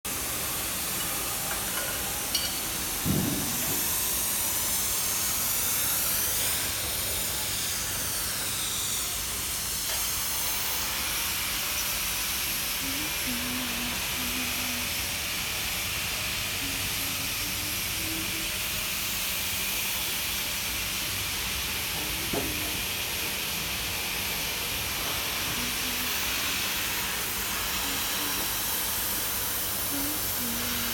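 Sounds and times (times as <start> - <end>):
compressor low hum: 0.1 - 30.9
fan air rushing: 0.1 - 30.9.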